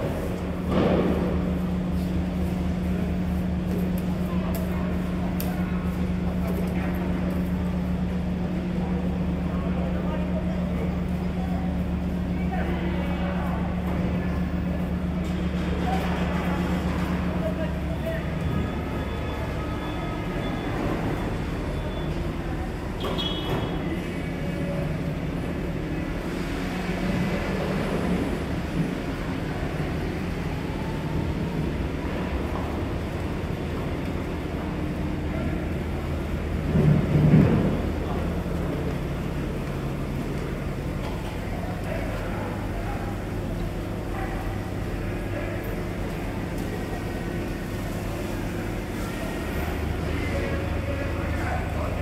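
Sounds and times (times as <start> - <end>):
vehicles and machinery running: 0.0 - 52.0.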